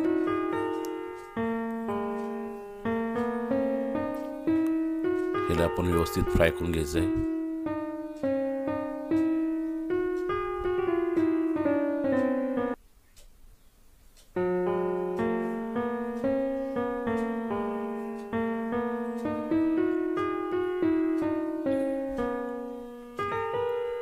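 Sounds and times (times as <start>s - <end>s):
piano music: 0.0s - 12.8s, 14.4s - 24.0s.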